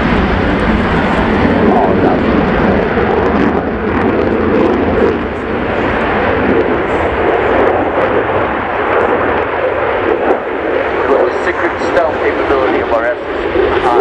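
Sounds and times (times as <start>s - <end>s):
fighter jet engine roaring: 0.0s - 14.0s.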